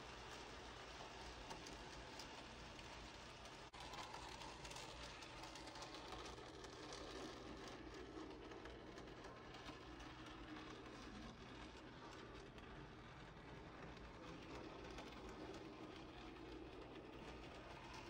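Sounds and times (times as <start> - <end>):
faint model trains running: 0.0 - 18.0.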